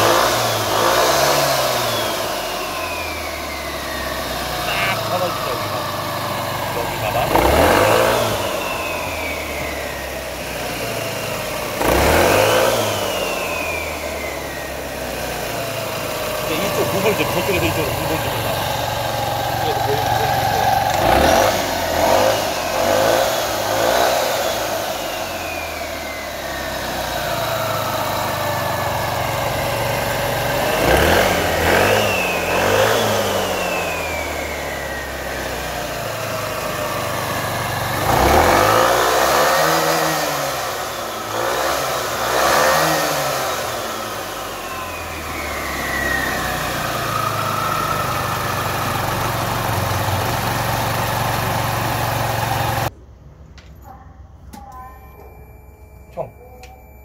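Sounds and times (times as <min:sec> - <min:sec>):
scooter engine revving: 0:00.0 - 0:53.1
drive belt whine: 0:00.0 - 0:57.0.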